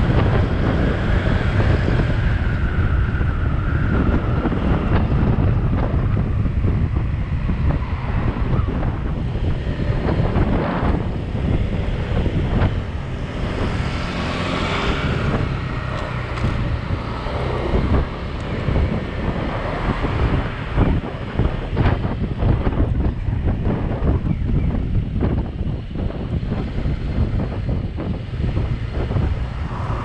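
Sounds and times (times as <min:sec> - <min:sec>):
scooter engine: 0:00.0 - 0:24.4
road noise: 0:00.0 - 0:30.0
wind rushing over microphone: 0:00.0 - 0:30.0.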